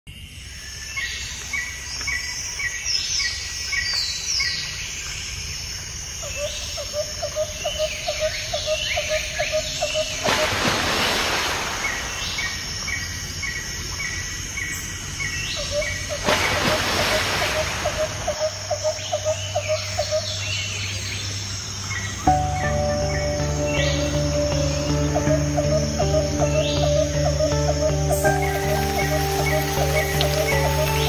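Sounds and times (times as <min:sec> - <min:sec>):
frogs and insects calling: 0:00.1 - 0:31.0.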